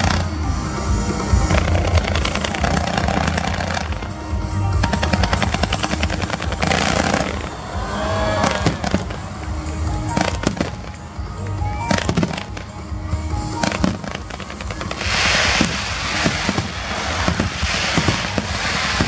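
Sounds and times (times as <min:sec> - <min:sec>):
background music: 0:00.0 - 0:19.0
fireworks crackling and bursting: 0:00.0 - 0:19.0.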